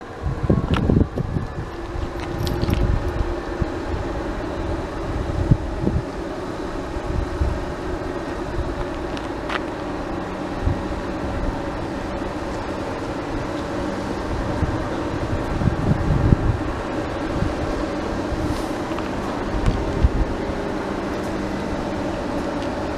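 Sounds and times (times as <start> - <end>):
train rumble and engine drone: 0.0 - 22.9.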